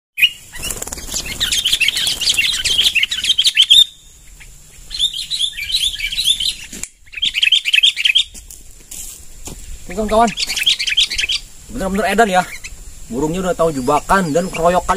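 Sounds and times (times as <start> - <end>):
birds chattering calls: 0.2 - 14.9.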